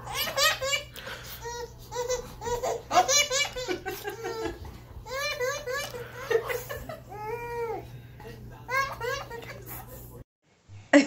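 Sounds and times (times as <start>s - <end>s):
baby laughing: 0.0s - 7.8s, 8.7s - 9.8s.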